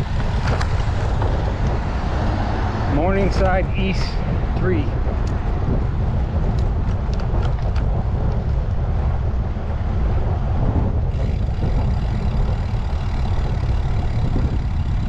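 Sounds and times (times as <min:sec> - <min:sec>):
road traffic rumble: 0:00.0 - 0:15.0
wind on microphone: 0:00.0 - 0:15.0.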